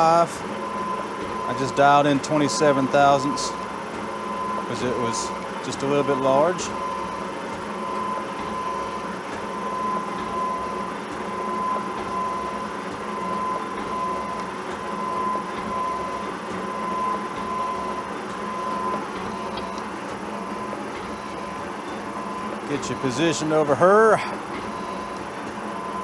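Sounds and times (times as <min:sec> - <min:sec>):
high machine whine: 0:00.0 - 0:26.0
milling machine cutting steel: 0:00.0 - 0:26.0.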